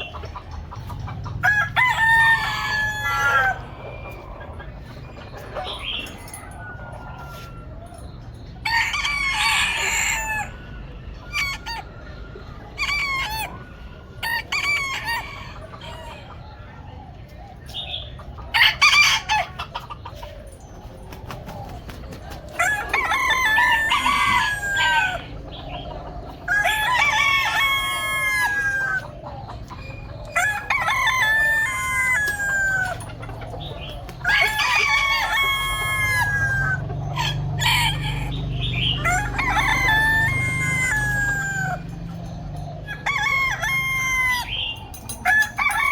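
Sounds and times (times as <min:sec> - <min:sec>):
chickens clucking: 0:00.0 - 0:45.9
roosters crowing: 0:00.0 - 0:45.9.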